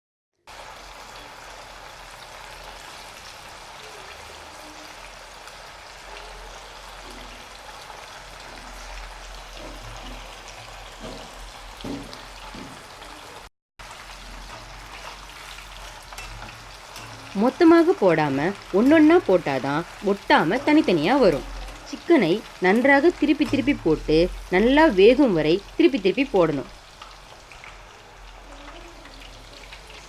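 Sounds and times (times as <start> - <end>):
chicken sizzling in hot oil: 0.4 - 30.0.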